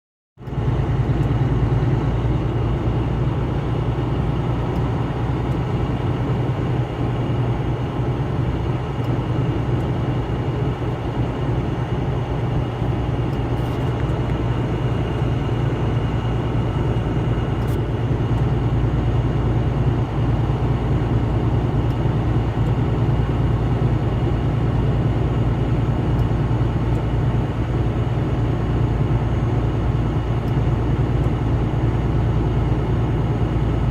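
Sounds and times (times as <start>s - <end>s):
vehicle driving at highway speed: 0.4s - 33.9s.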